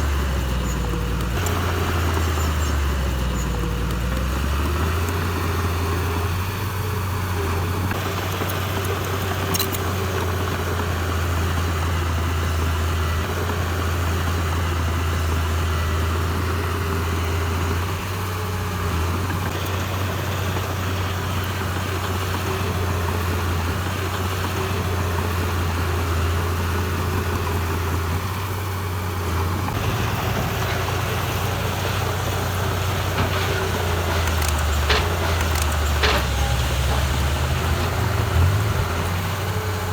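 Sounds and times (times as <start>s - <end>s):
heavy diesel engine drone: 0.0s - 39.9s.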